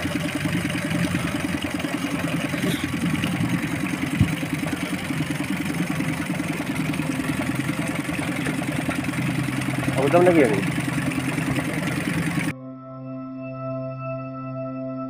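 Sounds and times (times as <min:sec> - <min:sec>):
engine chugging at low speed: 0:00.0 - 0:12.5.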